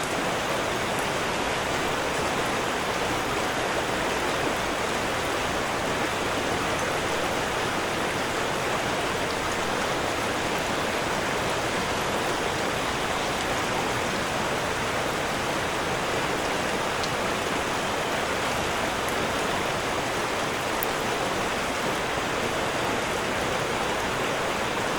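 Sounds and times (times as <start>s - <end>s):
rushing water: 0.0s - 24.9s.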